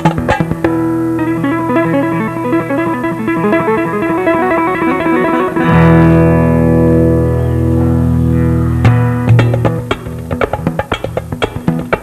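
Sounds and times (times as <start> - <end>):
instrumental music with low drone: 0.0 - 12.0.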